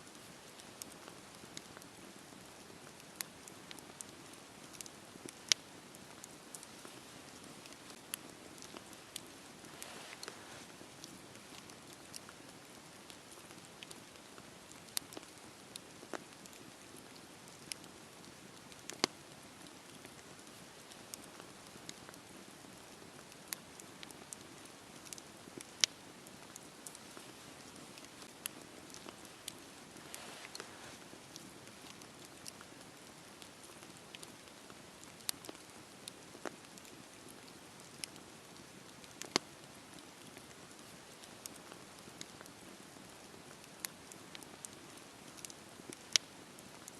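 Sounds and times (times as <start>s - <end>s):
fire crackles and pops: 0.0s - 46.9s
wood fire hissing: 0.1s - 46.9s.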